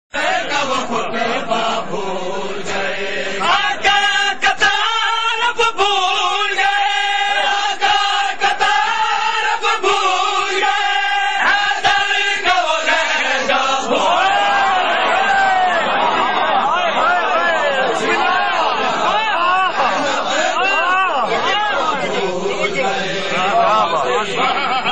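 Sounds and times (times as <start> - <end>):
men chanting together: 0.2 - 24.9.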